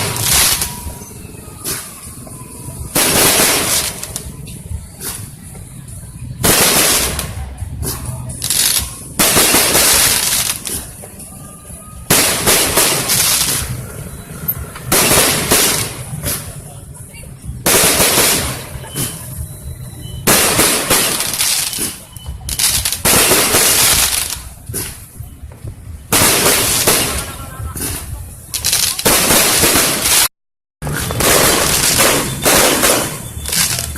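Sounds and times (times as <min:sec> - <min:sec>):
fireworks bursting and crackling: 0:00.0 - 0:33.9.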